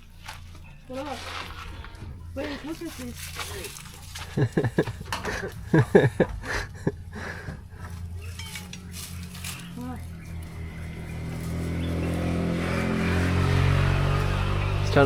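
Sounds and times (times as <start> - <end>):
vehicle engine approaching: 0.0 - 15.0.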